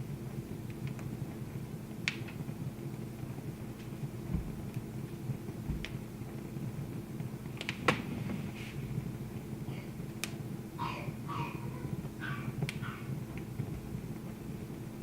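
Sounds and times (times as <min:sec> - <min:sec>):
wood fire crackling: 0:00.0 - 0:10.7, 0:12.0 - 0:15.0.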